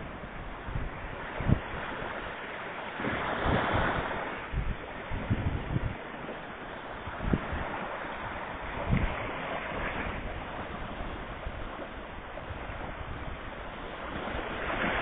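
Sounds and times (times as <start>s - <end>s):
small waves washing onto shore: 0.0s - 15.0s
wind on microphone: 0.0s - 15.0s.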